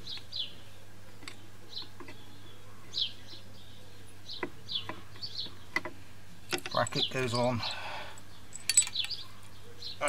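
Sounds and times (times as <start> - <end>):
small bird chirping: 0.0 - 6.0, 6.7 - 10.0.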